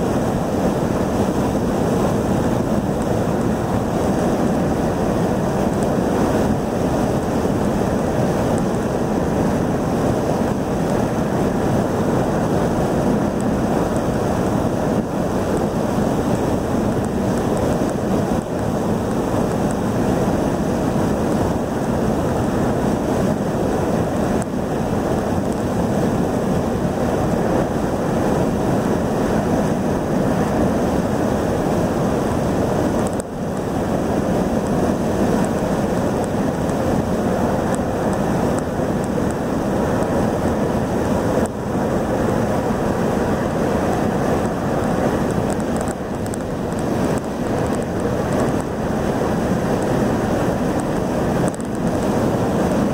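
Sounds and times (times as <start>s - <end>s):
road noise inside car: 0.0s - 52.9s.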